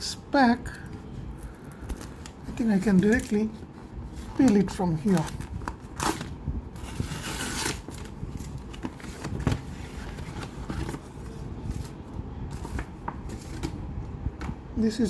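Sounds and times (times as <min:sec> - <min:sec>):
packaging rustling and crinkling: 0:01.4 - 0:13.7.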